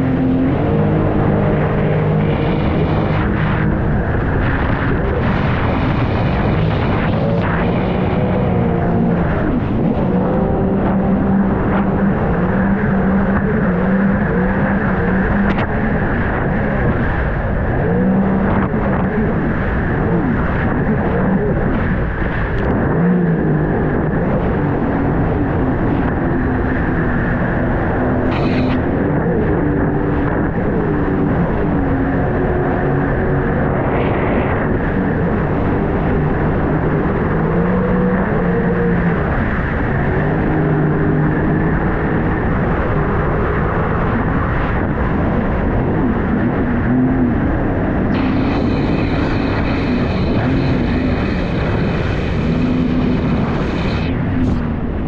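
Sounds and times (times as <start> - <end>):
loud rushing noise: 0.0 - 43.2, 44.0 - 55.0
jet ski engine running: 0.0 - 55.0
water noise: 0.0 - 55.0
wind noise: 0.0 - 55.0.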